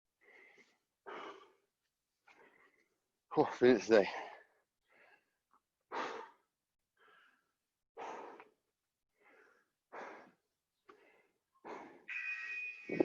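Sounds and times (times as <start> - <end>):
heavy breathing: 0.2 - 1.7, 2.3 - 12.1.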